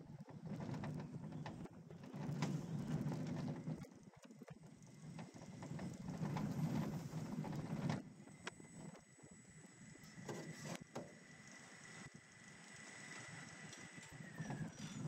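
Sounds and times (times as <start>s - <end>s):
roller coaster wheel rumble: 0.0s - 15.0s
track clattering and clicks: 0.0s - 15.0s.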